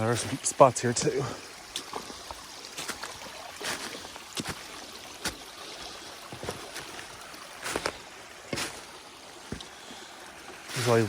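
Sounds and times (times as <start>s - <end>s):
footsteps on rocks: 0.0s - 10.1s
stream running: 0.0s - 11.0s.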